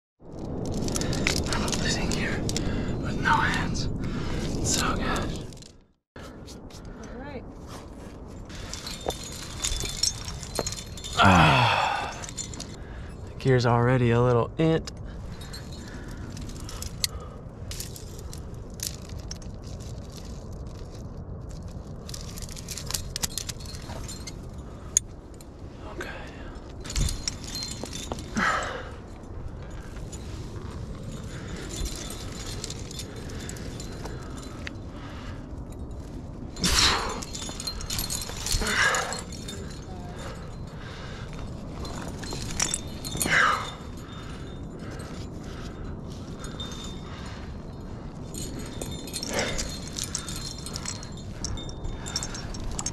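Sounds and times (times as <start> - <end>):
steady low rumble: 0.2 - 52.9
climbing gear clinking: 0.3 - 52.9.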